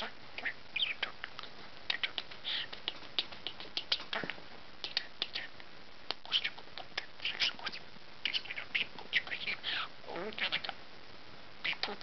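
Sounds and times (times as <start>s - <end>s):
budgerigar clicks and chirps: 0.0s - 5.5s, 6.1s - 10.8s, 11.6s - 12.0s.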